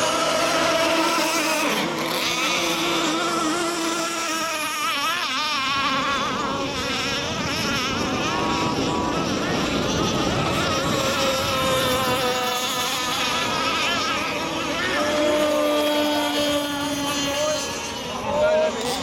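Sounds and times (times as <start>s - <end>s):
high motor whine of racing boats: 0.0s - 19.0s.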